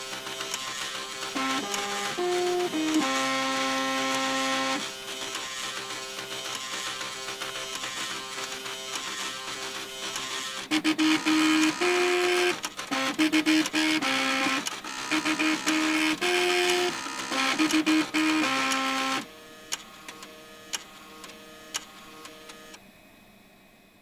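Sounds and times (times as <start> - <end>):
floppy drive motors buzzing a melody: 0.0 - 22.8.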